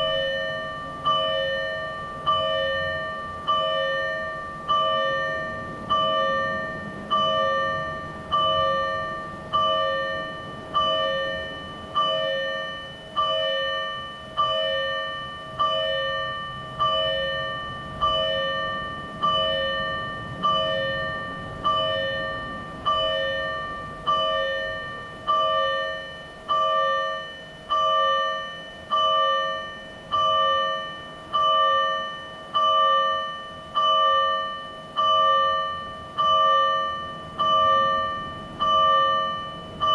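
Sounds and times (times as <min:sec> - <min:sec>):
electronic alarm bell strokes: 0:00.0 - 0:39.9.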